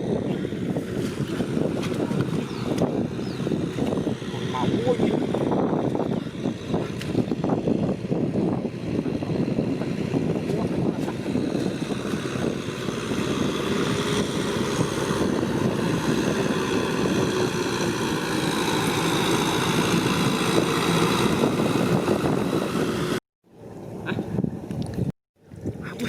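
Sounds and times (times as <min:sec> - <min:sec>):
tractor engine droning: 0:00.0 - 0:24.7.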